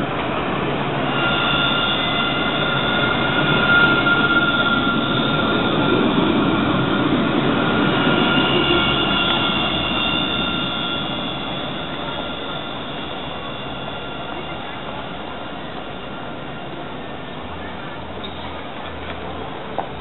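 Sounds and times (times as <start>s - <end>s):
high-pitched tram tones: 0.0s - 18.5s
tram rolling rumble: 0.0s - 20.0s.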